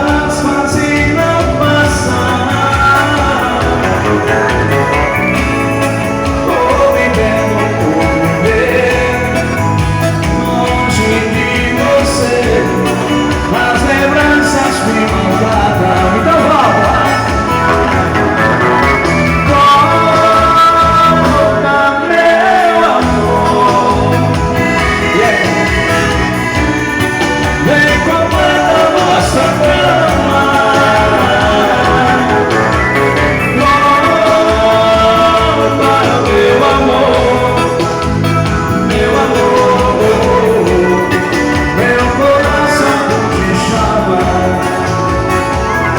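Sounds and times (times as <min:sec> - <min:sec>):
live band playing dance music: 0:00.0 - 0:45.9.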